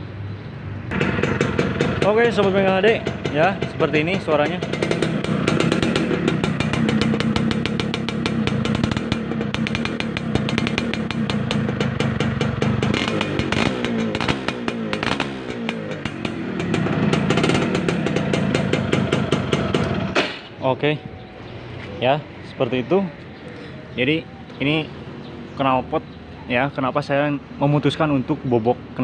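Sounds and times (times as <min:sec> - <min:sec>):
two-stroke engine idling and revving: 0:00.8 - 0:29.0.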